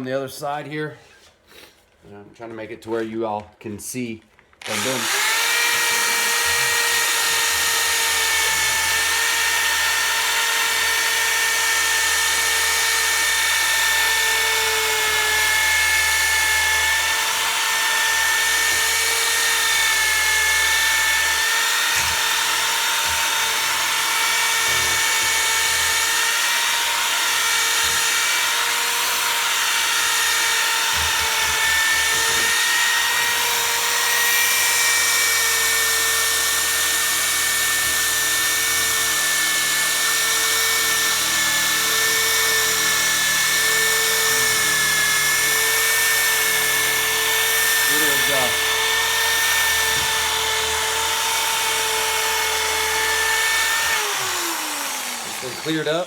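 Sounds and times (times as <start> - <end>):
electric polisher whining: 4.6 - 56.0.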